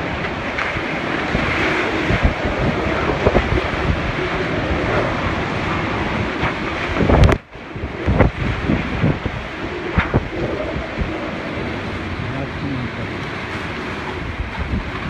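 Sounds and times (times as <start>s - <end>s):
low gusty thumps: 0.0s - 15.0s
strong wind buffeting microphone: 0.0s - 15.0s.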